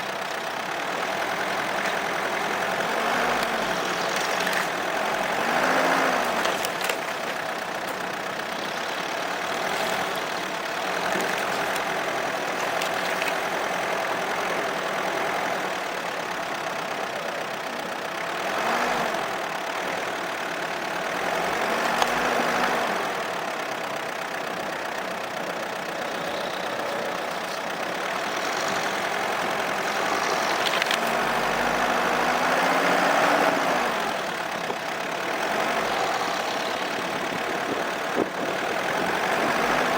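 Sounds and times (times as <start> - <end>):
car engine revving while driving: 1.0 - 15.7, 18.4 - 20.1, 20.9 - 23.4, 26.1 - 39.9.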